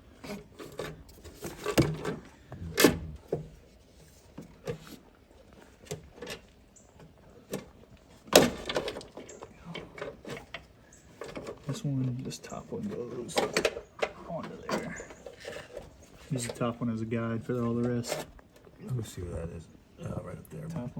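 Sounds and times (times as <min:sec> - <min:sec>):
parts and wiring being handled: 0:00.0 - 0:18.8.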